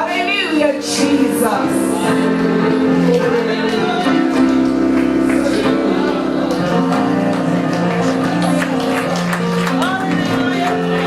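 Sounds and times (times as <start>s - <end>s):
people singing: 0.0s - 9.2s.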